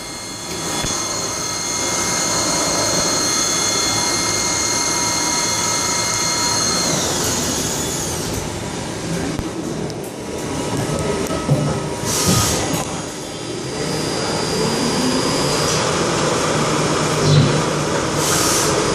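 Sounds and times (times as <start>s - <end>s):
lathe high whine: 0.0s - 9.2s, 12.0s - 18.9s.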